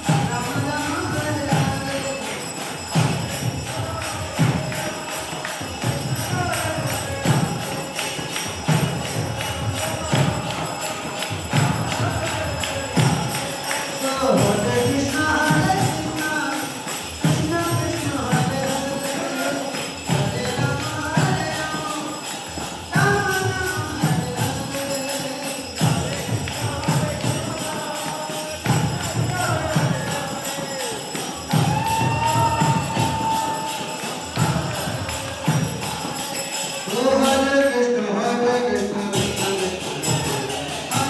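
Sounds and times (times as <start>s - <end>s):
group singing a chant: 0.0s - 41.0s
jingling hand cymbals: 0.0s - 41.0s.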